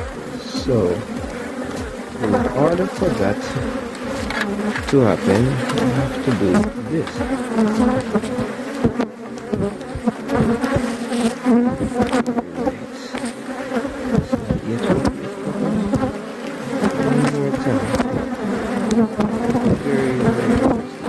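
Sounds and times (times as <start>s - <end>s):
bees buzzing loudly: 0.0s - 21.0s.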